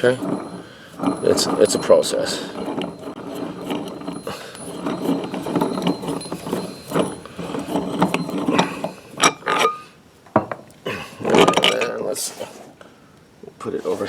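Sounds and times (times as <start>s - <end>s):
steel parts rattling and clanking: 0.0s - 10.6s, 11.3s - 12.0s.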